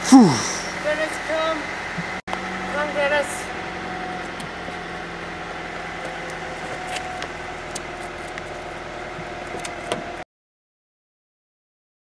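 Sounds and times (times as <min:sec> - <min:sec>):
steady mechanical hum: 0:00.0 - 0:10.2.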